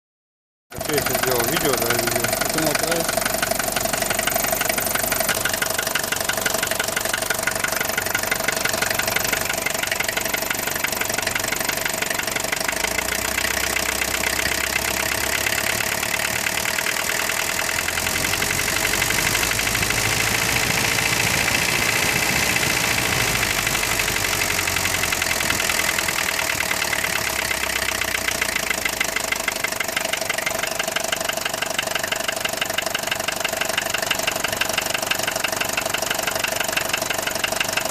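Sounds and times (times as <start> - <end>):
diesel engine knocking: 0.8 - 37.9.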